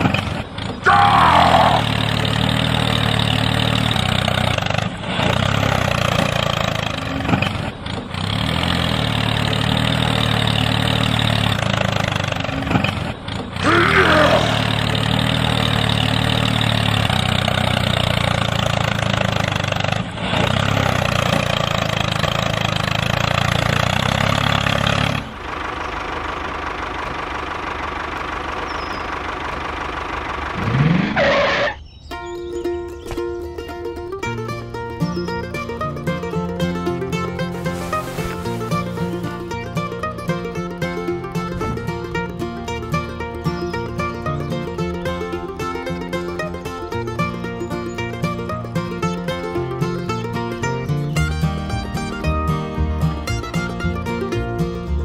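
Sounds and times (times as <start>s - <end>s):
quieter thinner engine running: 0.0s - 55.0s
tractor engine running: 0.0s - 55.0s.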